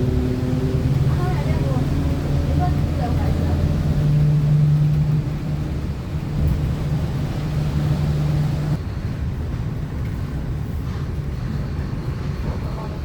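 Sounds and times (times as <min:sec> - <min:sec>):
bus differential whine: 0:00.0 - 0:12.8
engine and road rumble: 0:00.0 - 0:13.0.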